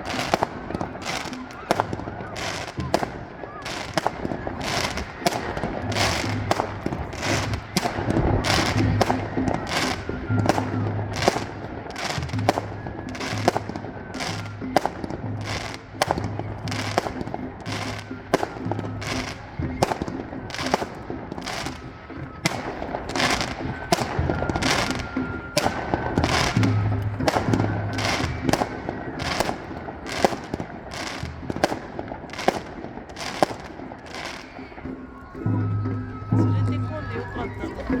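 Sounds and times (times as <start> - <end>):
fireworks bursting: 0.0 - 38.0
music playing: 0.0 - 38.0.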